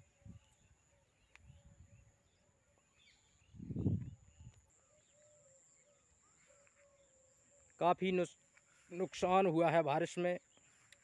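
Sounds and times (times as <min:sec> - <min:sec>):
faint open-field ambience: 0:00.0 - 0:11.0.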